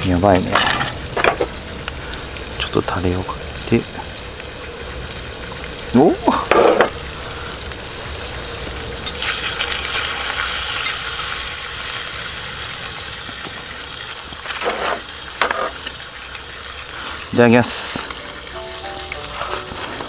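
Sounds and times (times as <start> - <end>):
meat sizzling on a griddle: 0.0 - 20.0.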